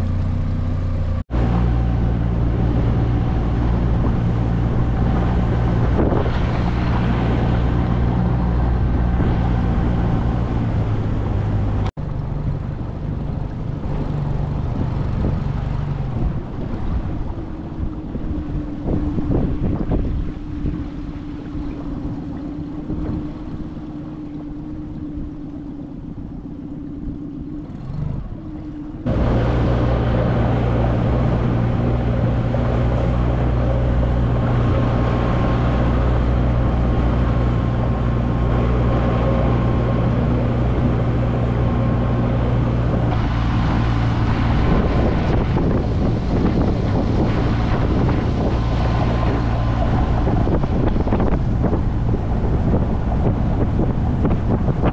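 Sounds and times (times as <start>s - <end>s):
outboard motor running: 0.0s - 54.9s
wind buffeting microphone: 1.2s - 54.9s.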